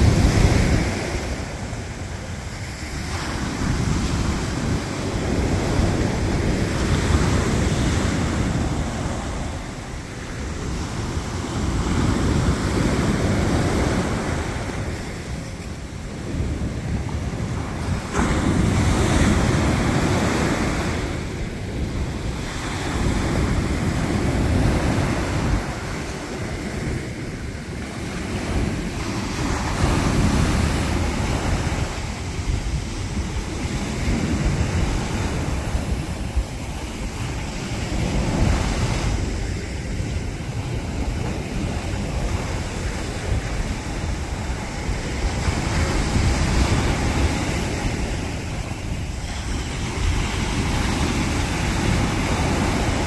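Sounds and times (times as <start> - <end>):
surf breaking on beach: 0.0 - 53.0
wind buffeting microphone: 0.0 - 53.0.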